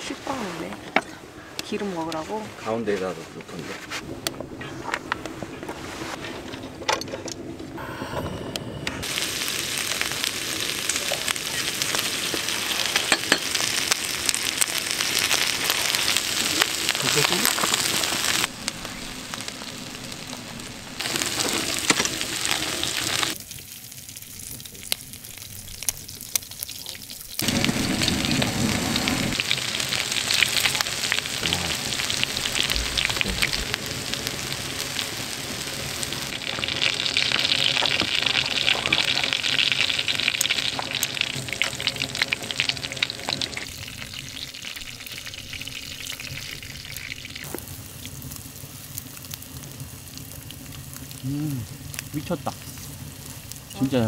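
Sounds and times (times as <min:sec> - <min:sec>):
meat sizzling on a griddle: 0:09.0 - 0:54.0.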